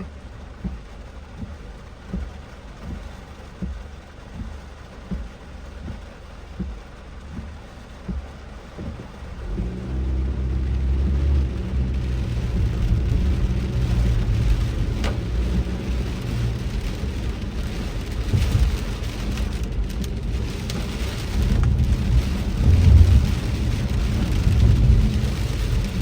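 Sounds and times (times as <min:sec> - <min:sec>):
car rumble: 0:00.0 - 0:26.0
heavy rain on car: 0:00.0 - 0:26.0.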